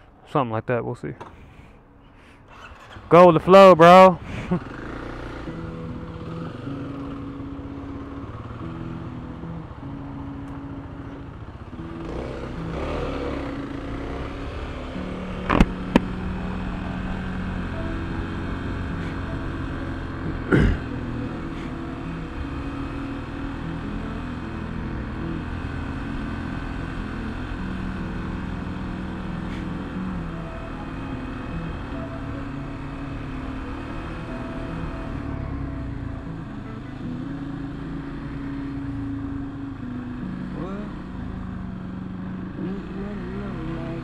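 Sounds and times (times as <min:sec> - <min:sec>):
road and wind noise: 0:00.0 - 0:44.0
motorcycle engine running: 0:02.5 - 0:44.0.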